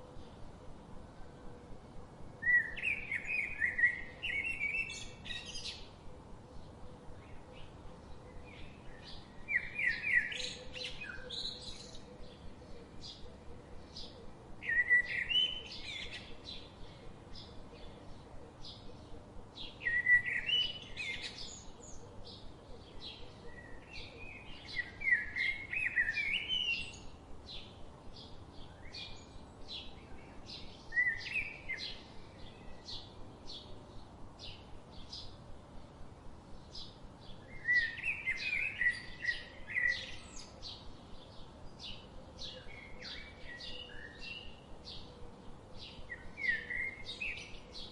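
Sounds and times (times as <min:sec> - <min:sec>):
small birds chirping: 0:02.4 - 0:47.9.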